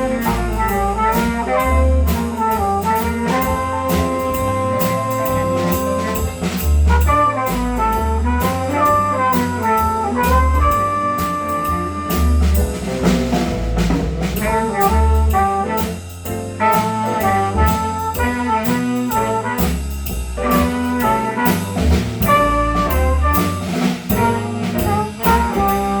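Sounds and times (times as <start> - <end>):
jazz band playing: 0.0 - 26.0.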